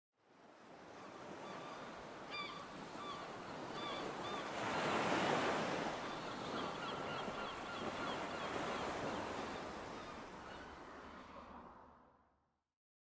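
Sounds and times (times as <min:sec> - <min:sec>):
sea waves washing in: 0:00.3 - 0:12.3.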